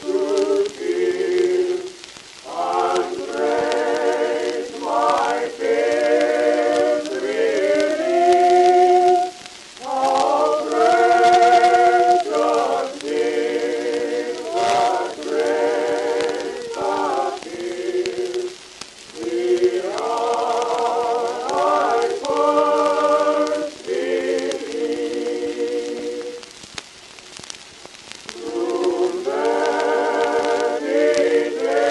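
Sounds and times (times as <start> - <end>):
choir singing sustained chords: 0.0 - 26.4, 28.3 - 31.9.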